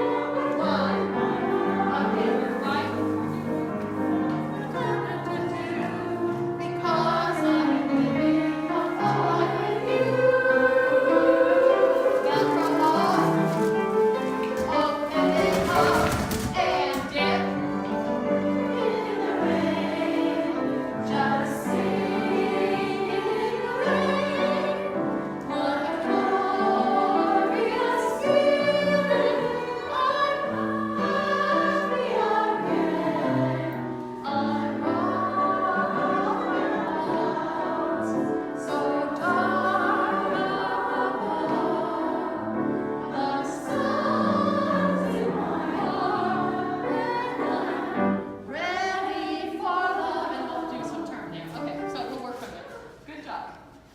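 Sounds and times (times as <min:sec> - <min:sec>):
choir singing with accompaniment: 0:00.0 - 0:52.0.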